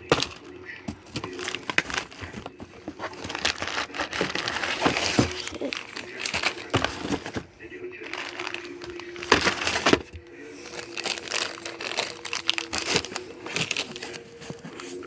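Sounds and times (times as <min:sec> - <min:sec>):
cardboard boxes rustling and scraping: 0:00.0 - 0:15.0.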